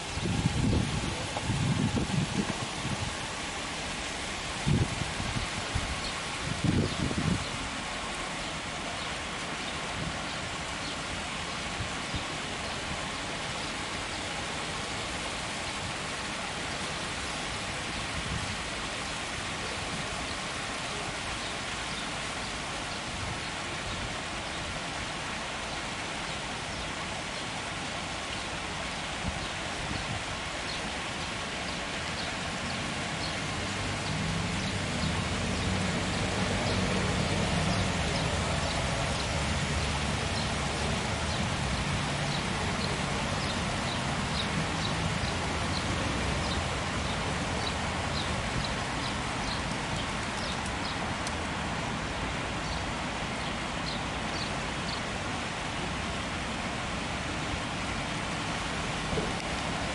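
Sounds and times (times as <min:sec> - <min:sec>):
low road traffic rumble: 0:00.0 - 0:59.9
waterfall splashing: 0:00.0 - 0:59.9.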